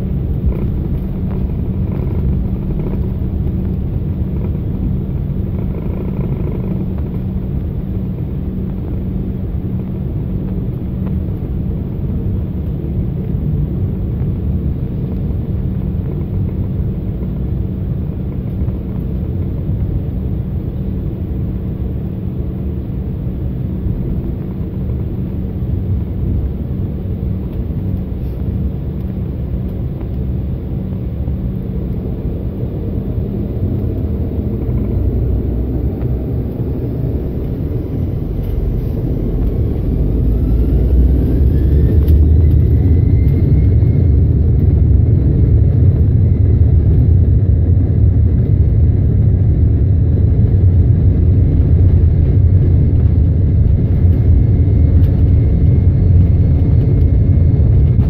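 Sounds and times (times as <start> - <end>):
jet engine whine rising: 0.0 - 58.0
jet engines rumbling in cabin: 0.0 - 58.0.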